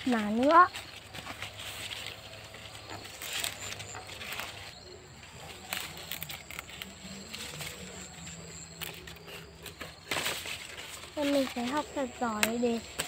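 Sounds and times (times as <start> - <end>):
leaves rustling and stalks snapping: 0.0 - 13.0.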